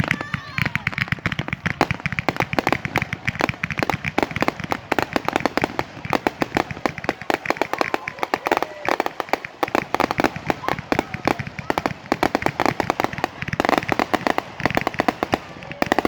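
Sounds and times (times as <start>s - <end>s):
firecrackers cracking and popping: 0.0s - 16.0s.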